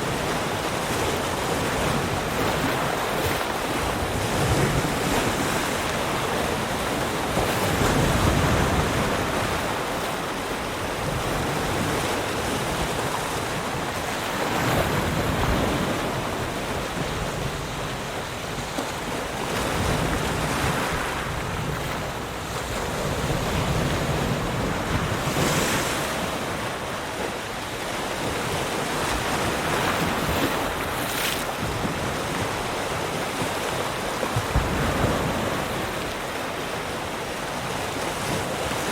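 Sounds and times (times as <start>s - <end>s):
sea waves breaking on shore: 0.0s - 38.9s
wind: 0.0s - 38.9s.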